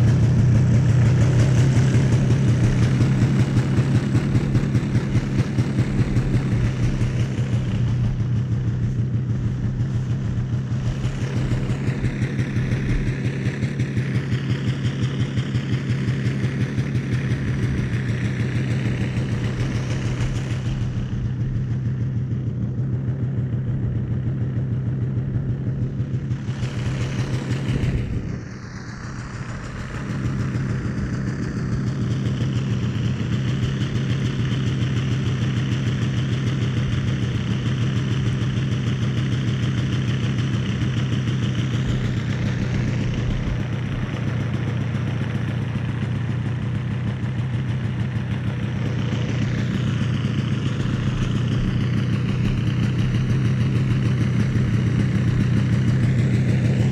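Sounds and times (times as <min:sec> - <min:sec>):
snowmobile engine idling: 0:00.0 - 0:56.9.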